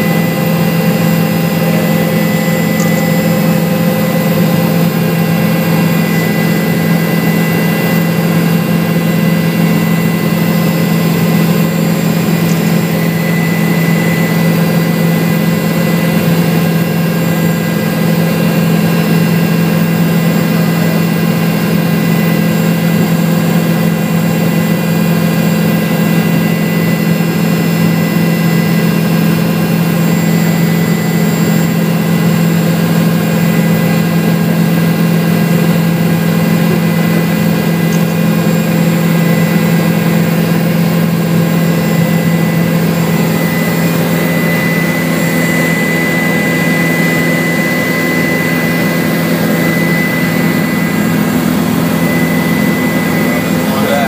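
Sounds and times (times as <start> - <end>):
helicopter engine and rotor drone: 0.0 - 54.0
high whining tones: 0.0 - 54.0.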